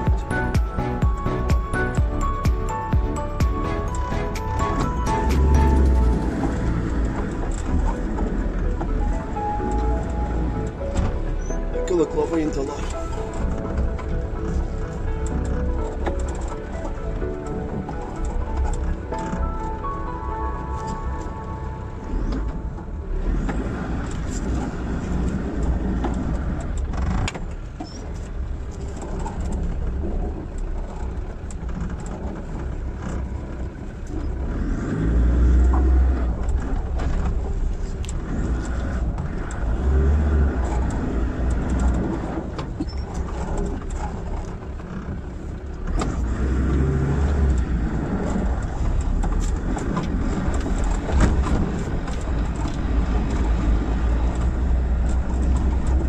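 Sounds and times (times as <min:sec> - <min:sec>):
vehicle knocks and rattles: 0:00.0 - 0:19.6, 0:22.3 - 0:34.5, 0:35.5 - 0:56.0
diesel engine pulling: 0:00.0 - 0:56.0.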